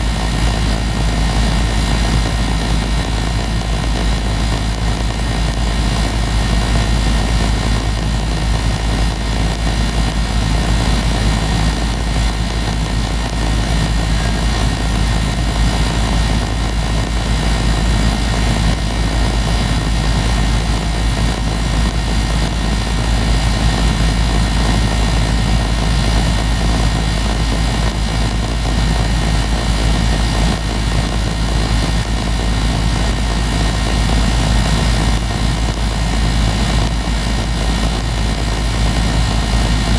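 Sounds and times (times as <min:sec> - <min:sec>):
air conditioner compressor hum: 0:00.0 - 0:39.9.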